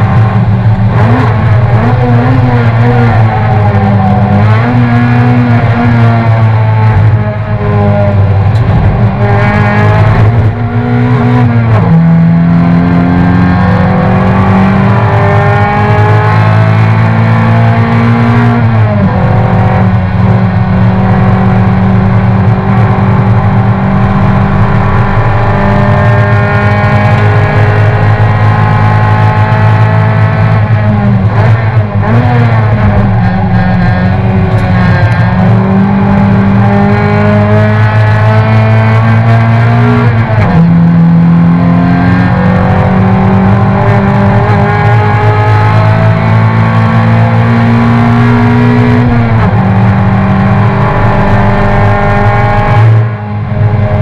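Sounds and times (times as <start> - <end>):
racing car engine at high revs: 0.0 - 54.0.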